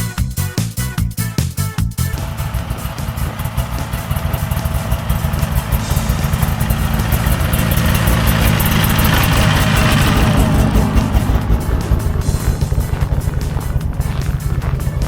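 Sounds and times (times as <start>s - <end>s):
vehicle engine running: 2.0s - 15.0s.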